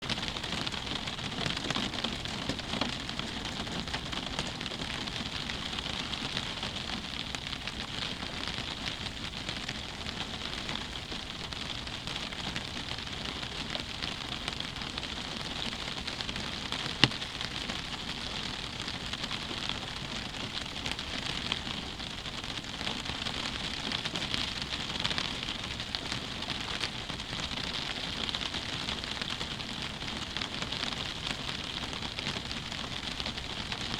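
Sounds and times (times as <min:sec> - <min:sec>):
rain pattering on a window: 0:00.0 - 0:33.9.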